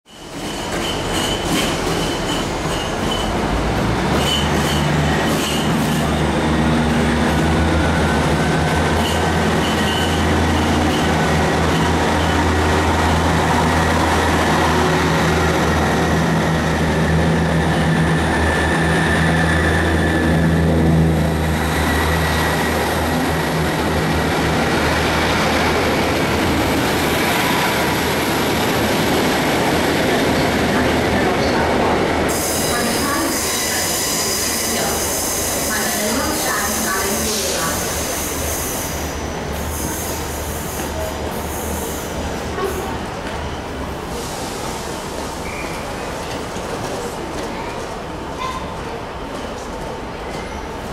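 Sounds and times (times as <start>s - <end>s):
train engine drone: 0.2s - 50.9s.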